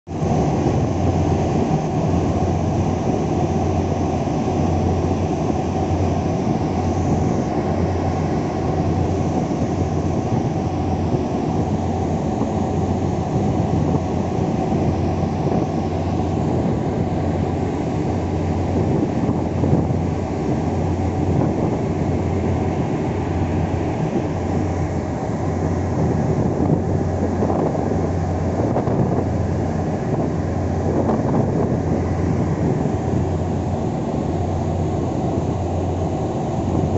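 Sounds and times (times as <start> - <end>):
boat engine drone: 0.1 - 36.9
water rushing along hull: 0.1 - 36.9
wind on microphone: 0.1 - 36.9.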